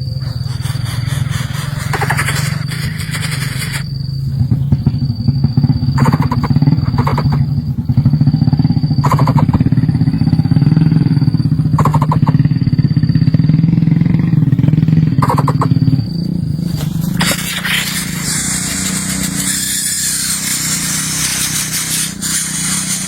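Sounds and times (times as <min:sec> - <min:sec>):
rapid clicking or chirping: 0:00.0 - 0:12.8, 0:14.0 - 0:16.3, 0:16.9 - 0:23.0
small engine running: 0:00.0 - 0:23.0.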